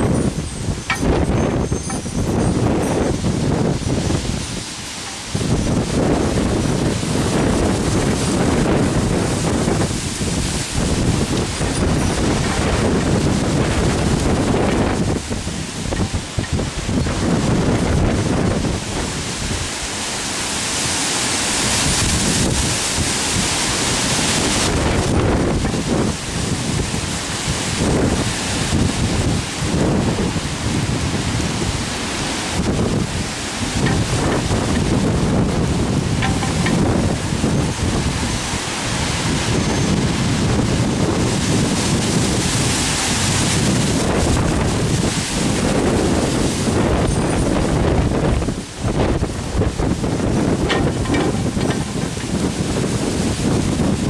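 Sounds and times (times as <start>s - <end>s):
wind buffeting microphone: 0.0s - 54.0s
wind rushing through leafy trees: 0.0s - 54.0s.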